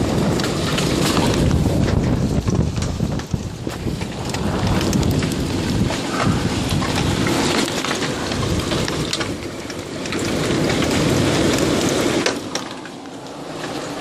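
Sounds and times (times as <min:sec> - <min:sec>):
low rumble: 0:00.0 - 0:11.9
heavy rain pelting: 0:00.0 - 0:14.0
sharp rain taps: 0:00.0 - 0:14.0.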